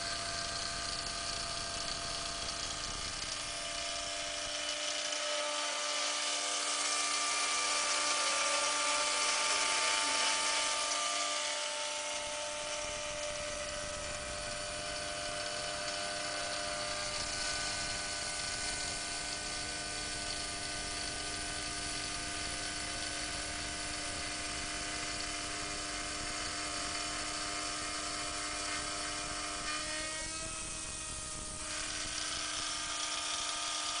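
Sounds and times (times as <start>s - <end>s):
motor whine sliding in pitch: 0.0s - 34.0s
spindle whirring while cutting plastic: 0.0s - 34.0s.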